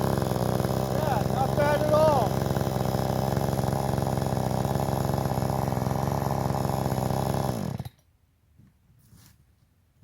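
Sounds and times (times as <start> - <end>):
chainsaw idling and shutting off: 0.0 - 8.1.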